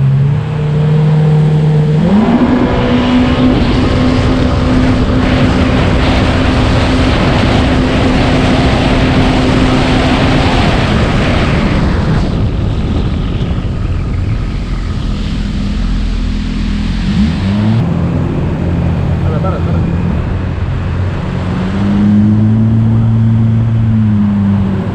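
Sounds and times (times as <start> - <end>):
jet ski engine running hard: 0.0 - 24.9
water and wind rush: 0.0 - 24.9.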